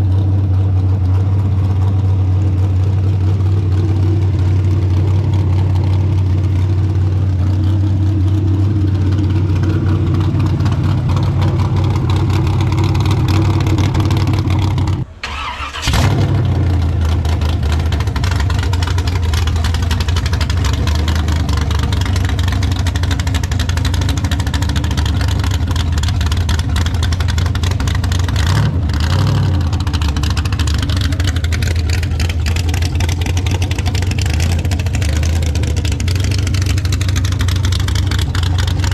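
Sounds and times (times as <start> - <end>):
truck engine exhaust rumbling: 0.0 - 38.9.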